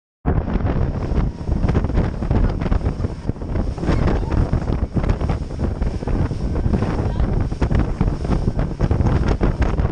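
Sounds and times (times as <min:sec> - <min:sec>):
motorboat speeding: 0:00.3 - 0:09.9
wind buffeting microphone: 0:00.3 - 0:09.9.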